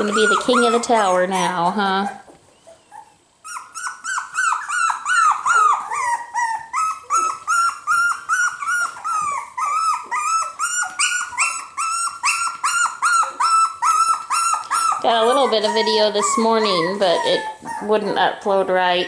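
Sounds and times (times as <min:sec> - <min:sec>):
puppy yipping: 0:00.0 - 0:18.1.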